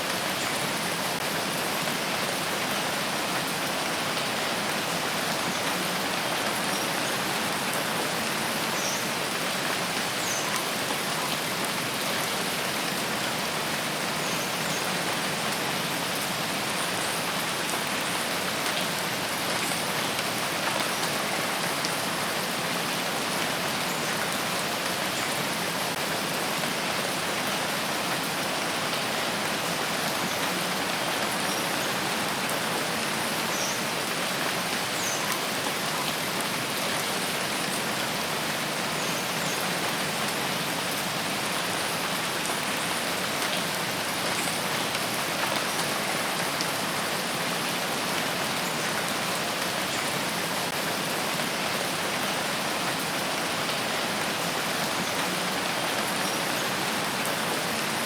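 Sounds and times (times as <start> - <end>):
rain falling in a forest: 0.0 - 58.0.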